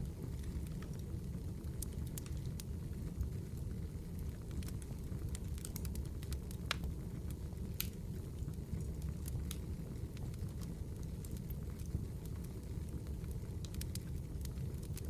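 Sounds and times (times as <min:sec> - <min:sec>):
wood fire crackling: 0:00.0 - 0:15.0
fire pops and snaps: 0:00.2 - 0:15.0.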